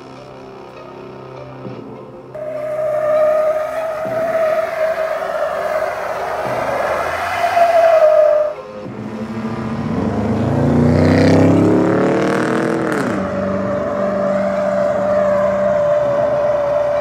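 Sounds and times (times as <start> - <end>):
pickup truck engine revving: 2.4 - 17.0.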